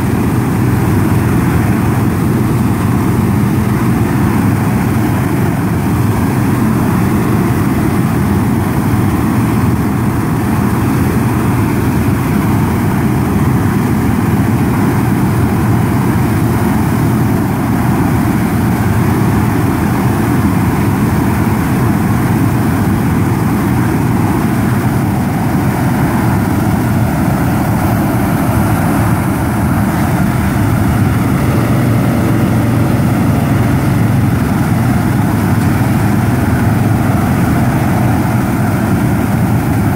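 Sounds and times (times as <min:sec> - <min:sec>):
propane burners roaring: 0:00.0 - 0:39.9
tractor engine running: 0:00.0 - 0:39.9.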